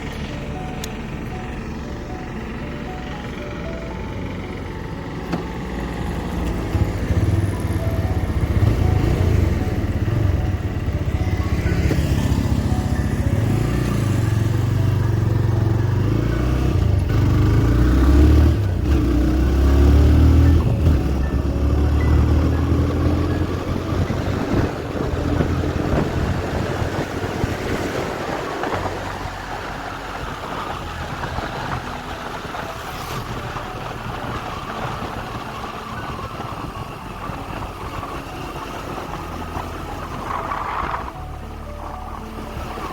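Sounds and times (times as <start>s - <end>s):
motorcycle engine running: 0.0s - 42.9s
road and wind noise: 0.0s - 42.9s.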